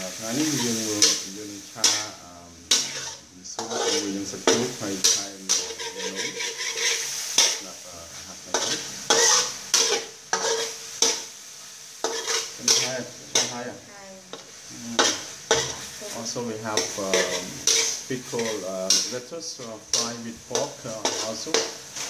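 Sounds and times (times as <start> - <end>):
food sizzling: 0.0 - 22.0
metal spatula scraping a wok: 0.2 - 7.7, 8.5 - 11.3, 12.0 - 22.0.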